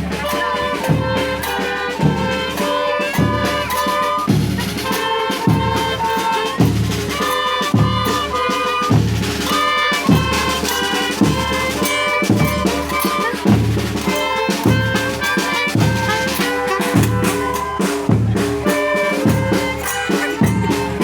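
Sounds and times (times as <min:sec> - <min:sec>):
brass band playing tune: 0:00.0 - 0:21.0
heavy low drum beat: 0:00.0 - 0:21.0.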